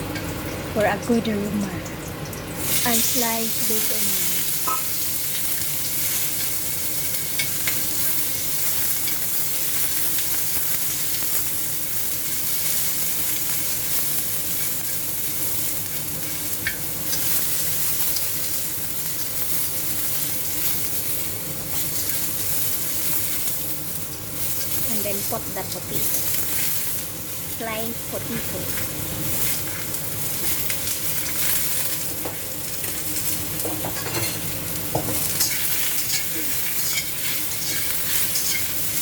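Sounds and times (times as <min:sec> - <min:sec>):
onion sizzling in oil: 0:00.0 - 0:39.0.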